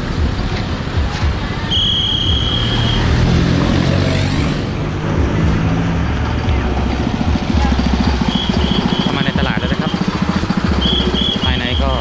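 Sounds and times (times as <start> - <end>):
crowd chatter: 0.0 - 12.0
vehicle engine running: 0.0 - 12.0.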